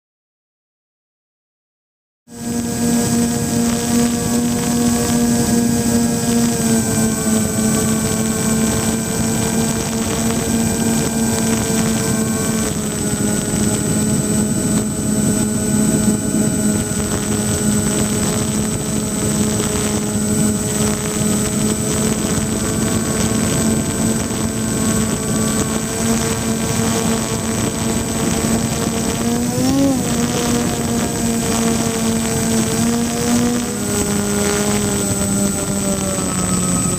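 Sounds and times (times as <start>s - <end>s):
electric plane motors whining: 2.3s - 36.9s.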